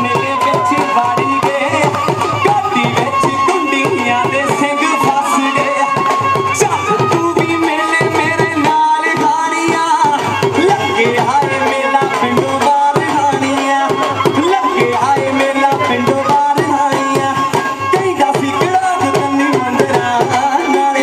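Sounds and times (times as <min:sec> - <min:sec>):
held melody line: 0:00.0 - 0:21.0.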